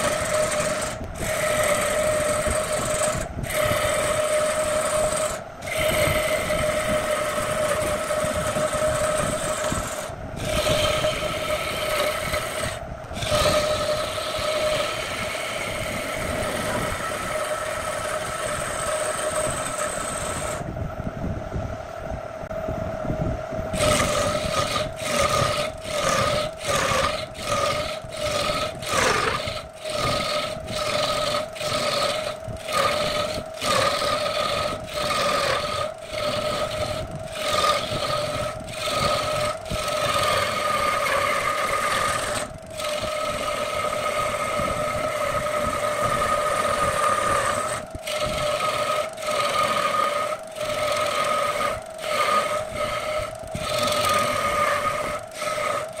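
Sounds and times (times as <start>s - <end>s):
turning tool cutting wood: 0.0s - 20.7s, 23.7s - 56.0s
wood lathe humming: 0.0s - 20.7s, 23.7s - 56.0s.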